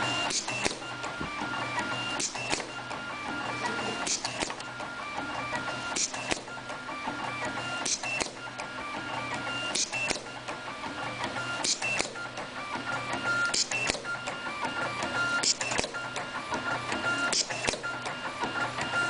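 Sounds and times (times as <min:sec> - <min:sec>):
machine cutting clacks: 0:00.0 - 0:19.0.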